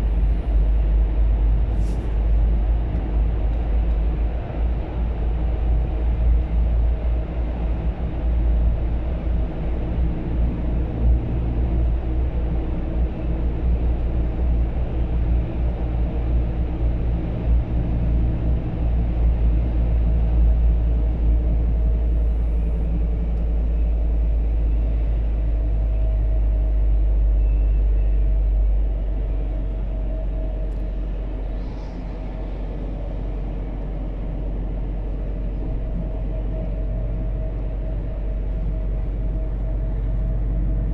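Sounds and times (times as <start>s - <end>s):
road and tyre rumble: 0.0s - 40.9s
truck engine drone: 0.0s - 40.9s.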